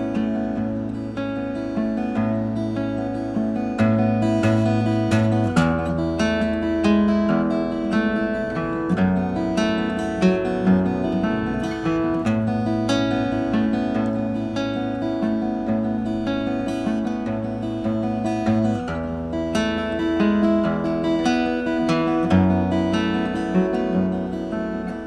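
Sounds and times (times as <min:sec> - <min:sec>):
acoustic guitar fingerpicking: 0:00.0 - 0:25.0.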